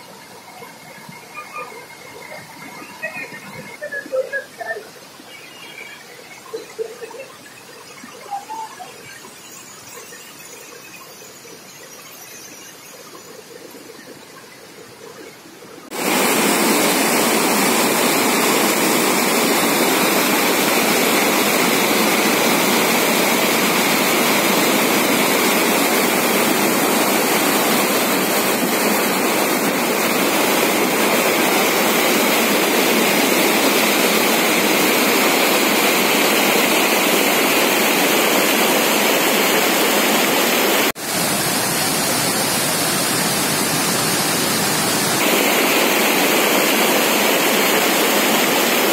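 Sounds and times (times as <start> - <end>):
water rushing over weir: 0.0 - 48.9.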